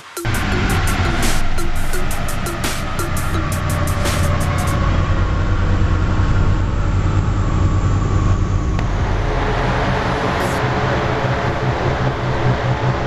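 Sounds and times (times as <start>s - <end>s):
rotary engine running: 0.2s - 13.0s.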